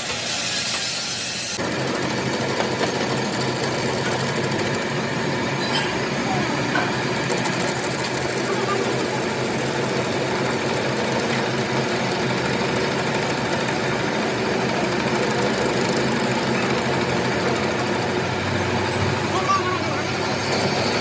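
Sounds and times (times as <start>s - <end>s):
metal lathe running: 0.7s - 21.0s.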